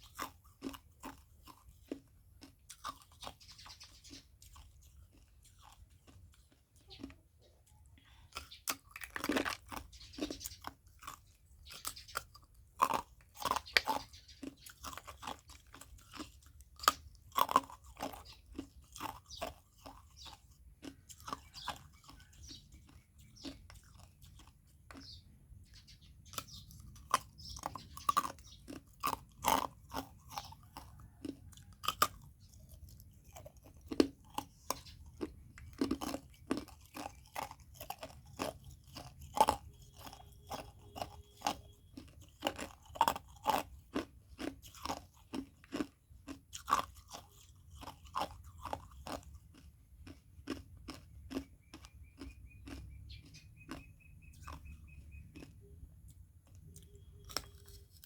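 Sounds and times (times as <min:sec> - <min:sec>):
ice crunching in mouth: 0:08.3 - 0:25.3, 0:26.0 - 0:58.0.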